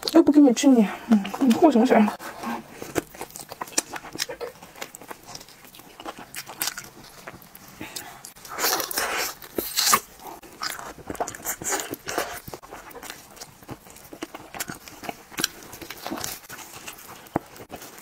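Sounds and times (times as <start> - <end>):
close chewing and gnawing: 0.0 - 18.0.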